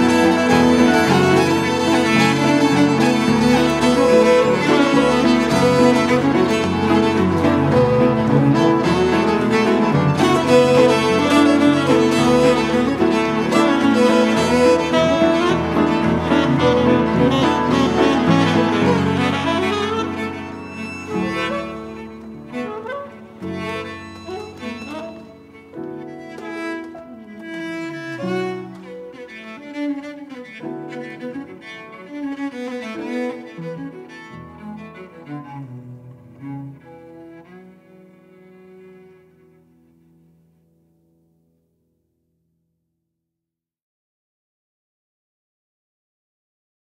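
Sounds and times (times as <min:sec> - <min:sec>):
fiddle cello and saxophone ensemble: 0:00.0 - 0:39.7
piano: 0:00.0 - 0:42.3.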